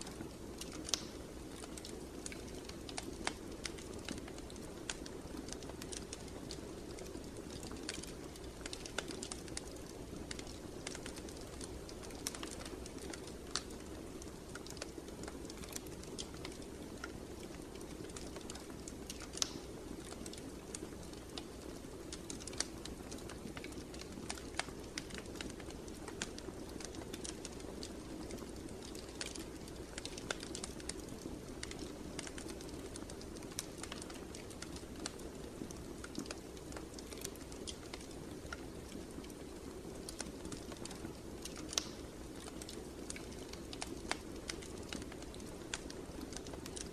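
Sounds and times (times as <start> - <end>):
low roar of flames: 0.0 - 46.9
wood fire crackling: 0.0 - 46.9.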